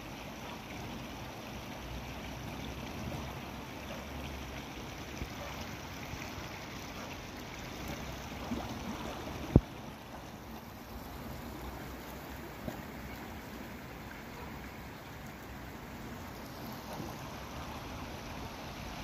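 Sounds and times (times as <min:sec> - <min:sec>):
water gurgling from manhole: 0:00.0 - 0:19.0.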